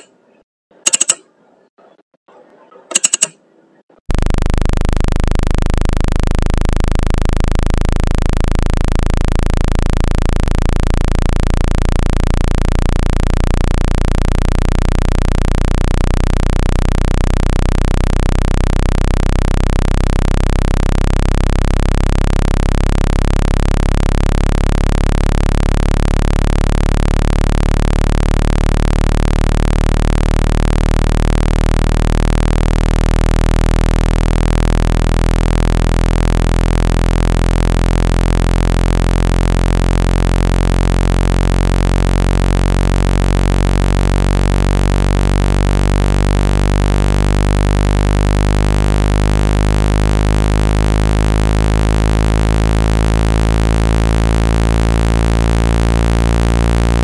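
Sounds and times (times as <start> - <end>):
deep buzzing tone: 4.1 - 57.0.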